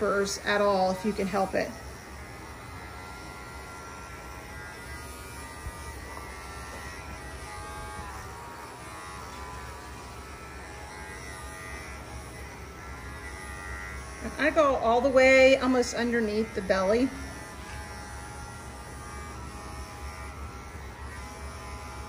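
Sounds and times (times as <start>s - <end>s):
electric clippers buzzing: 0.0s - 22.0s.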